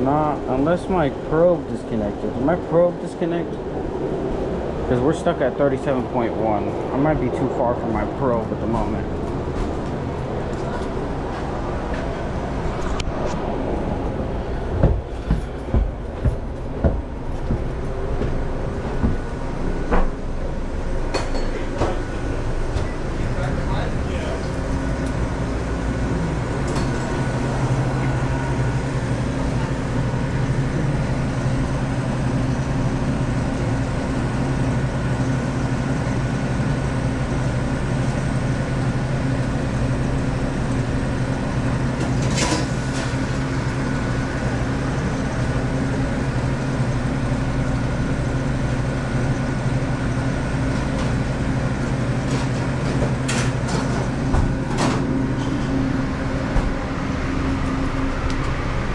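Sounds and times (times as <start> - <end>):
compressor hum: 0.0 - 58.9
fan air whir: 0.0 - 58.9.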